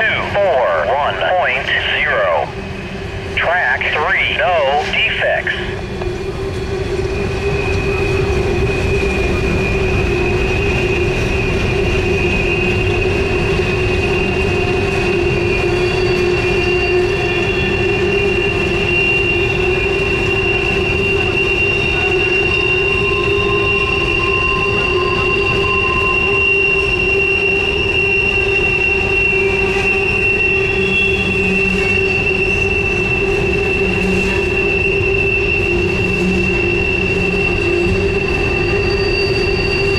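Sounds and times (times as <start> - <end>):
rumble of wheels on rails: 0.0 - 39.9
train wheels squealing: 5.3 - 39.9.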